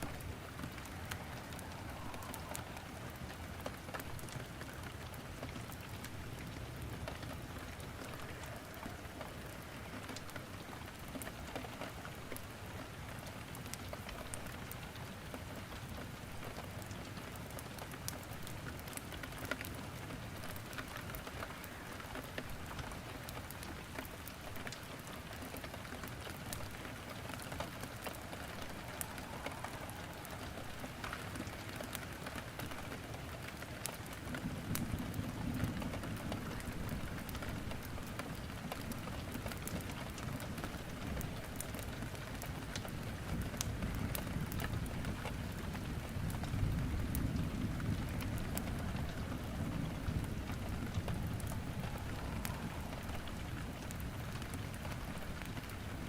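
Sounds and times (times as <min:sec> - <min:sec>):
steady rain: 0:00.0 - 0:56.0
wood crackling in fireplace: 0:00.0 - 0:56.0.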